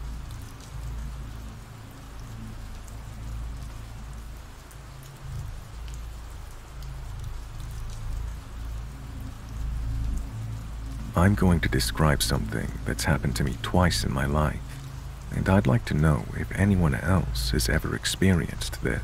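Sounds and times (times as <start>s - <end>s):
rain drop ticks: 0.0s - 19.0s
steady rain hiss: 0.0s - 19.0s.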